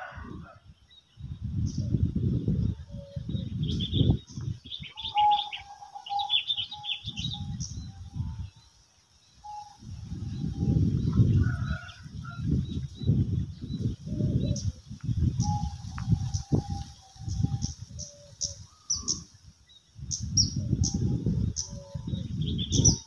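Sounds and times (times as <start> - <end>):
wind buffeting microphone: 0.0 - 23.0
small birds chirping: 0.7 - 23.0.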